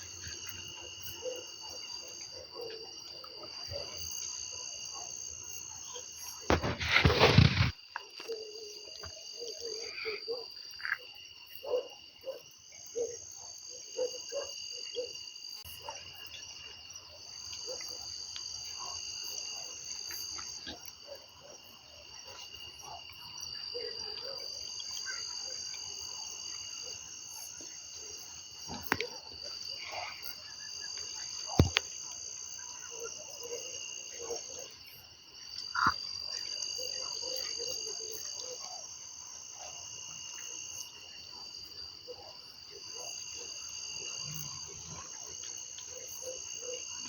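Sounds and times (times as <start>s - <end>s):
frogs croaking: 0.0s - 47.0s
insects trilling: 0.0s - 47.0s.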